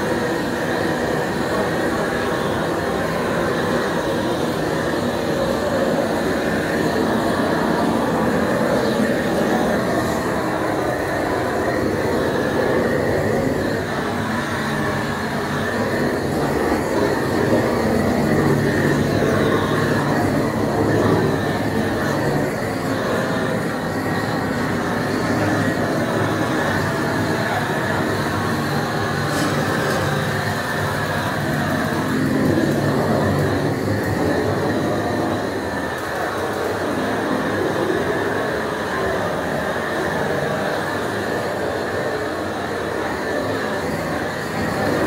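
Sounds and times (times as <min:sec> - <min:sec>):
machine humming steadily: 0:00.0 - 0:45.0.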